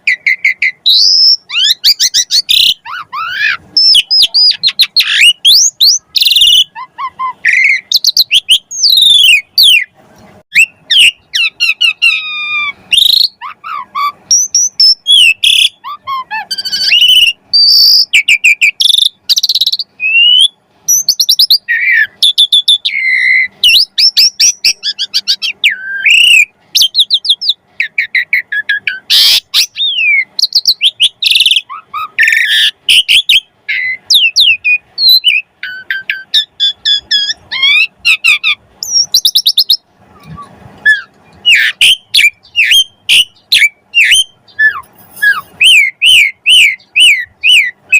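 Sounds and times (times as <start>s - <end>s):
starling singing: 0.0s - 47.9s.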